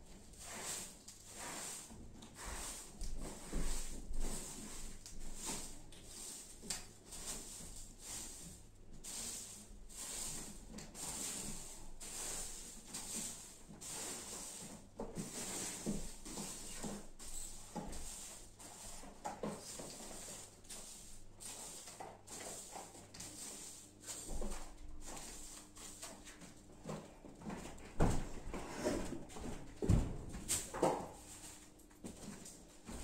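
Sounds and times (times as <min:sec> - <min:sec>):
straw broom sweeping floor: 0:00.1 - 0:33.0.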